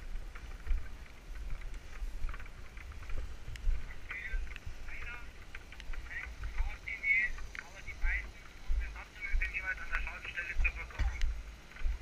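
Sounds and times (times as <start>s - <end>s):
light ticks and rustles: 0.0s - 12.0s
microphone handling noise: 0.0s - 12.0s
wind rumble: 0.0s - 12.0s.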